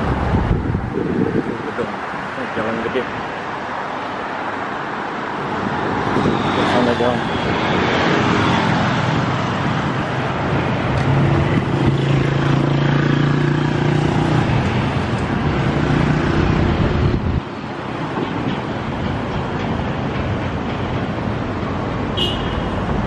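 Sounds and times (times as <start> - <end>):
cars and motorcycles passing: 0.0 - 23.0.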